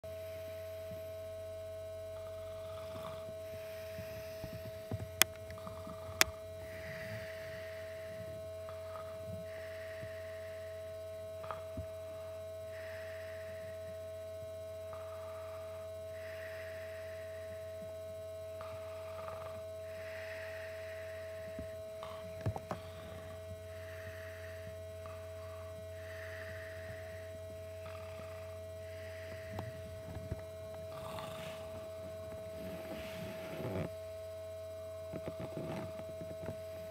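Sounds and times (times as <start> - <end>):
steady electrical hum: 0.1 - 36.9
man snoring softly: 2.1 - 34.0, 35.1 - 36.9.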